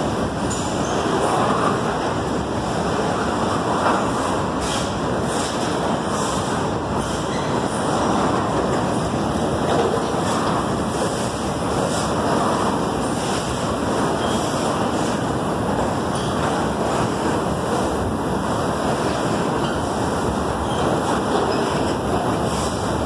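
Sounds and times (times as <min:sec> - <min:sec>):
freight train wheels rushing: 0:00.0 - 0:23.0.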